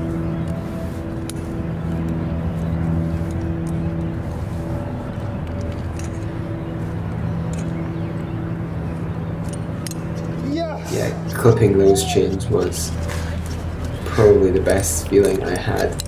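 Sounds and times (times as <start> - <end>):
low held music notes: 0.0 - 16.0.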